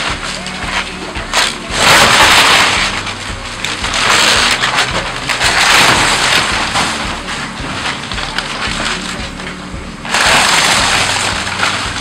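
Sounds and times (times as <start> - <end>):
wood crunching and splintering: 0.0 - 12.0.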